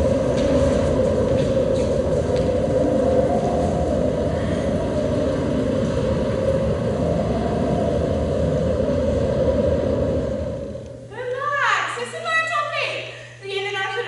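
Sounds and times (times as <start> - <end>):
low rumble: 0.0 - 12.1.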